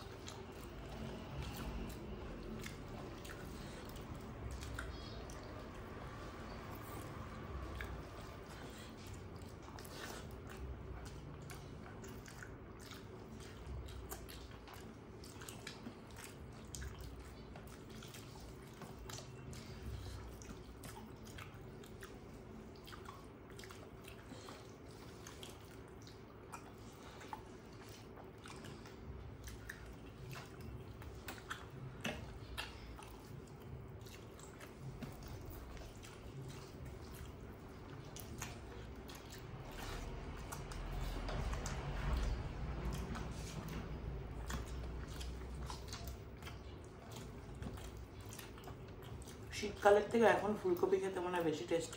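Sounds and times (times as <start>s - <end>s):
people chewing: 0.0s - 51.1s
faint hum: 0.0s - 51.9s.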